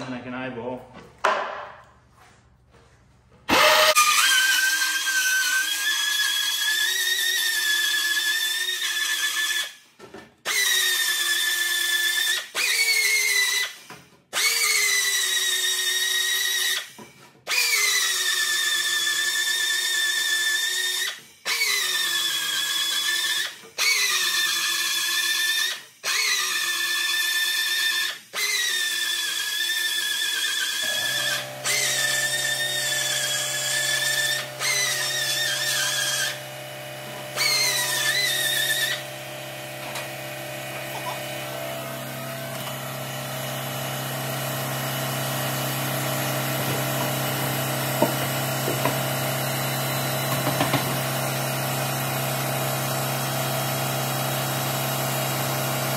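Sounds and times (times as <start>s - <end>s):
electric drill whining: 3.5s - 9.9s, 10.5s - 55.9s.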